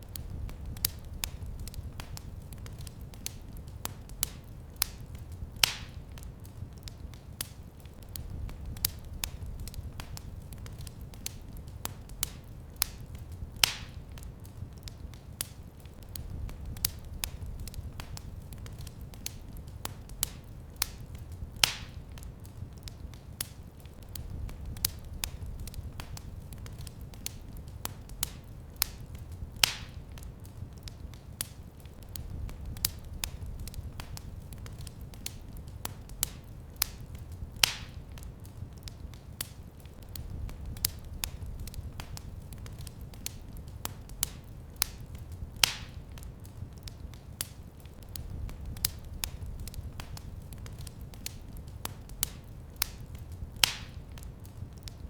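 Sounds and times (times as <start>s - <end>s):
low fire rumble: 0.0s - 55.0s
wood fire crackling: 0.0s - 55.0s.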